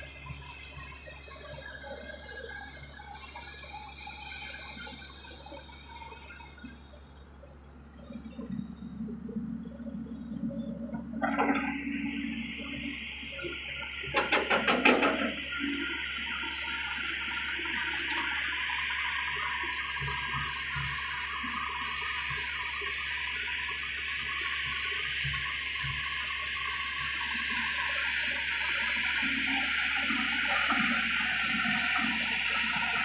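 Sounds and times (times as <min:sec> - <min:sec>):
hydraulic excavator hissing: 0:00.0 - 0:20.9, 0:27.2 - 0:33.0.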